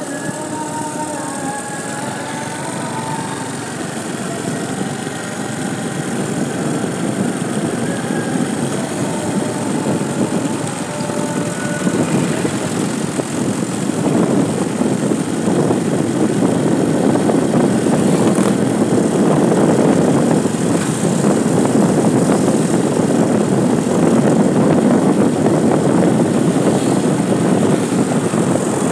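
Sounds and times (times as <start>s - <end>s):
engine noise: 0.0s - 28.9s
tyre noise on paved road: 0.0s - 28.9s
wind rushing on microphone: 0.0s - 28.9s.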